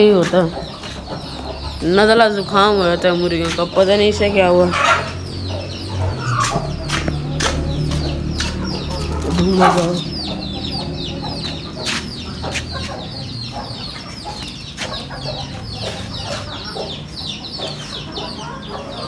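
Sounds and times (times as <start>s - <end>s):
chickens clucking: 0.0s - 19.0s
chicks chirping: 0.0s - 19.0s.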